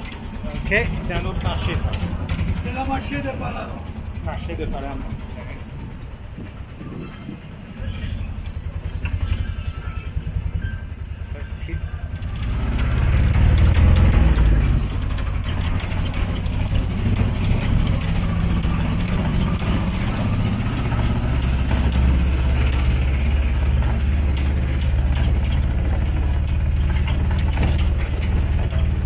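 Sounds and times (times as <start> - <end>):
small engine droning: 0.0 - 29.0.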